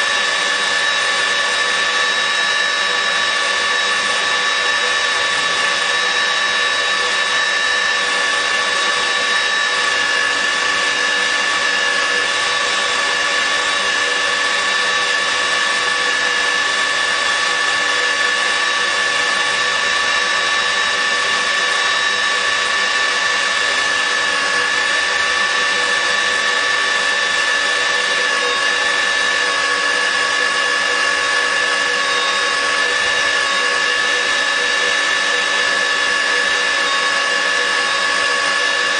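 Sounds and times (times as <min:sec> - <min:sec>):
drilling machine high whine: 0:00.0 - 0:38.9.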